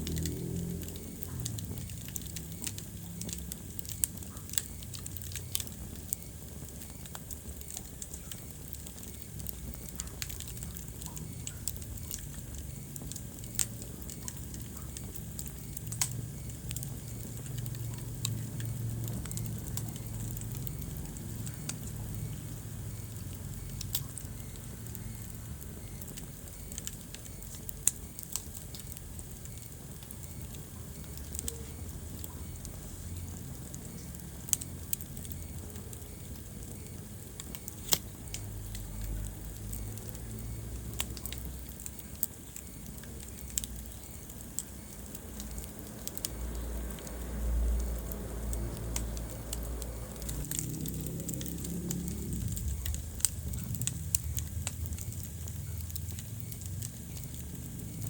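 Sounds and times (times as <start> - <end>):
low rumble of flames: 0.0 - 58.0
wood fire pops and snaps: 0.0 - 58.0.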